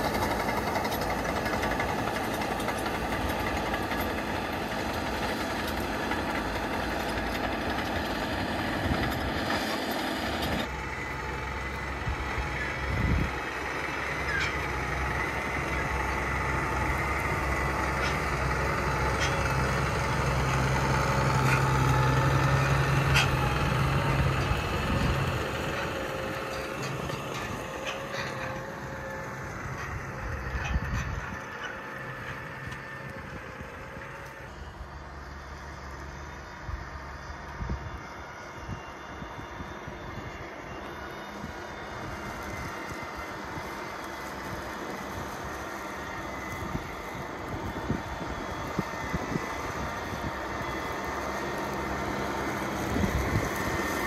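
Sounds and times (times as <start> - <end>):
crawler tractor diesel engine under load: 0.0 - 54.0
tractor diesel engine low hum: 0.0 - 54.0.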